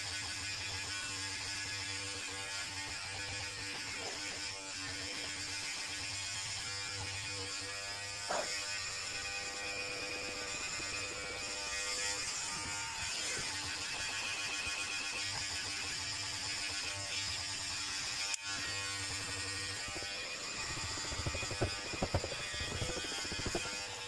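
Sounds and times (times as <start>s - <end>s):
electric hair clippers buzzing: 0.0s - 24.0s.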